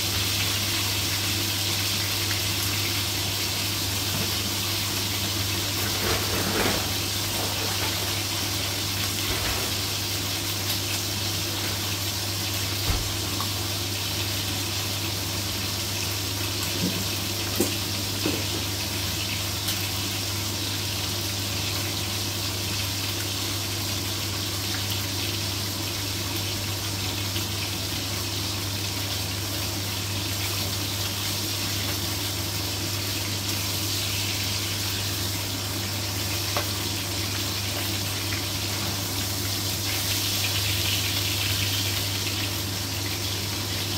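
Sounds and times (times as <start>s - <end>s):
meat sizzling in a frying pan: 0.0s - 43.9s.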